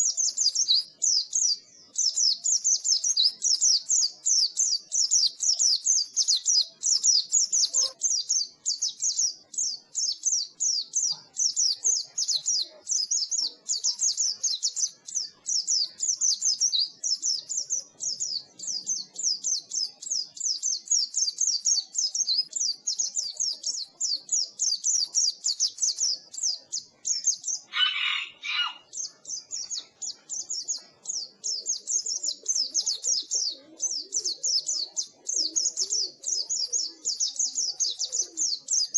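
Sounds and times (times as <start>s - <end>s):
bird twittering rapid high chirps: 0.0s - 38.9s
lower-pitched bird call: 0.0s - 38.9s.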